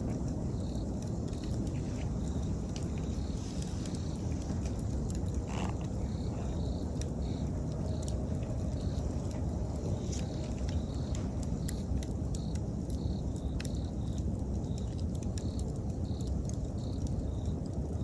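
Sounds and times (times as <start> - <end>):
campfire crackling: 0.0 - 18.0
insects chirping: 0.0 - 18.0.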